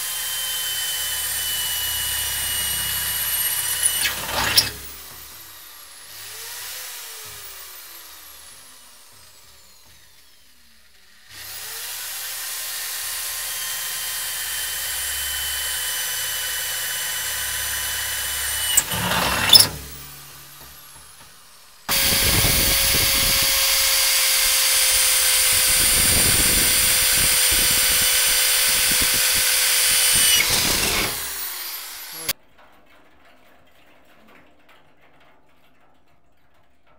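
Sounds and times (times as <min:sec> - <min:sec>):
electric drill boring through steel: 0:00.0 - 0:32.4.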